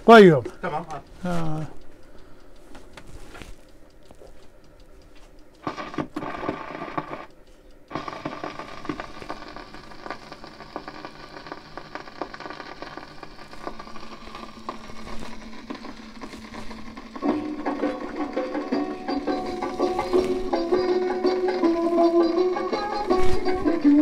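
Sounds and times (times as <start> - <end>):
record needle crackle and hiss: 0.0 - 24.0.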